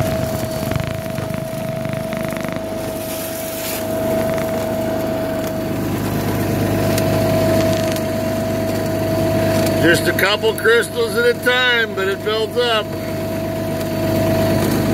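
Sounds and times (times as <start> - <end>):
salt spreader motor whine: 0.0 - 14.9.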